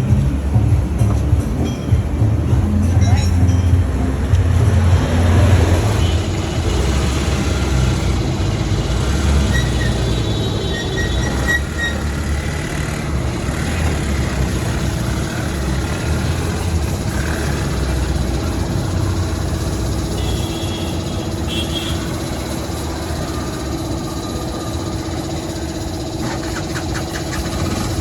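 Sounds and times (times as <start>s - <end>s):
low vehicle engine rumble: 0.0s - 28.0s
road noise: 0.0s - 28.0s.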